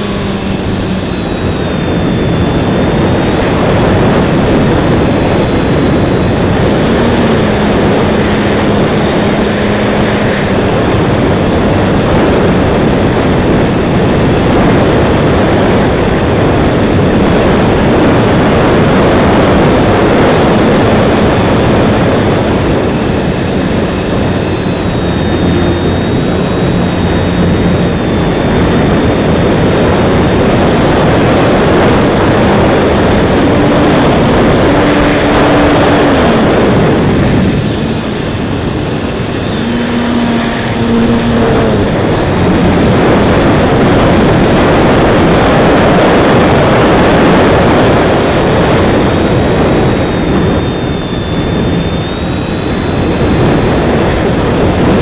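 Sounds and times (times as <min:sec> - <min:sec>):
faint electric motor hum: 0:00.0 - 0:45.5
propeller air rush: 0:00.0 - 0:55.0.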